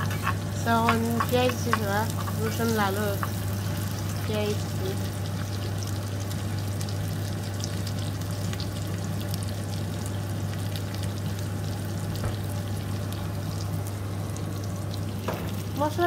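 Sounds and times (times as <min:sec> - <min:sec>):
constant low hum: 0:00.0 - 0:16.0
onions frying in hot oil: 0:00.0 - 0:16.0.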